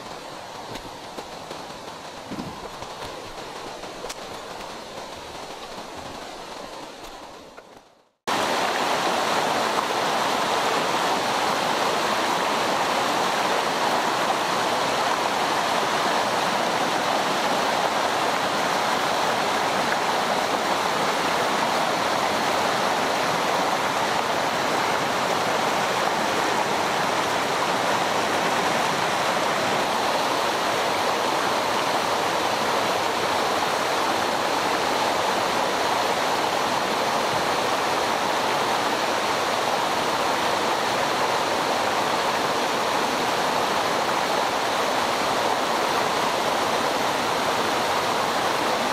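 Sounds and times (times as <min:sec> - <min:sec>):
stream rushing over rocks: 0:00.0 - 0:48.9.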